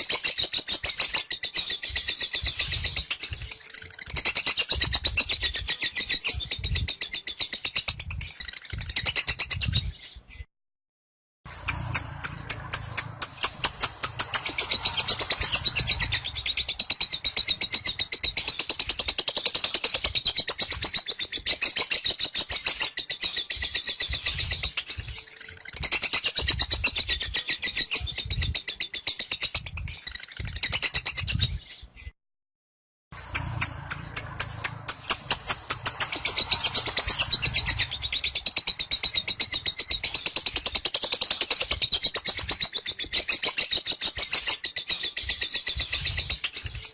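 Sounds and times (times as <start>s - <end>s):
lovebird high chattering song: 0.0s - 10.3s, 11.5s - 31.9s, 33.2s - 46.9s.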